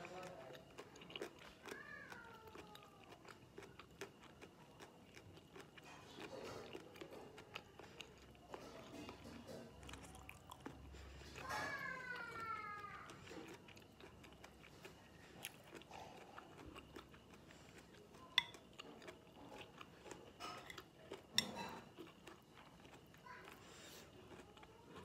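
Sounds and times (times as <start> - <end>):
wet chewing clicks: 0.0 - 25.0.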